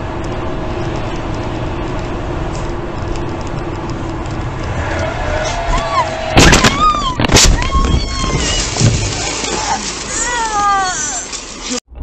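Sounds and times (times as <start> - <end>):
car road noise hum: 0.0 - 12.0.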